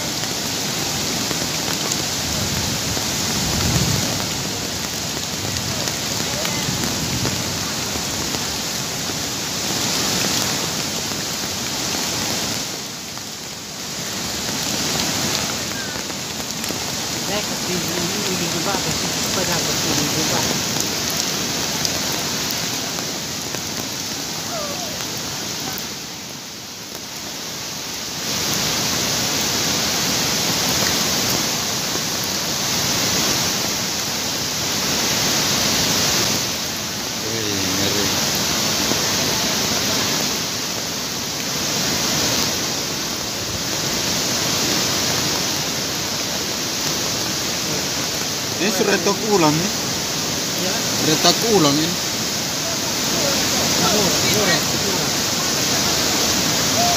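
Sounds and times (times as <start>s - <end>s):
heavy rain: 0.0s - 56.9s
river in flood rushing: 0.0s - 56.9s.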